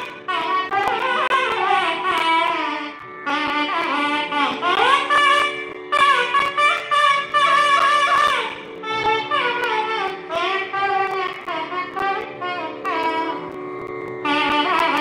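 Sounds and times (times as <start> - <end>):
steady drone: 0.0 - 15.0
wind instrument ornamented melody: 0.0 - 15.0.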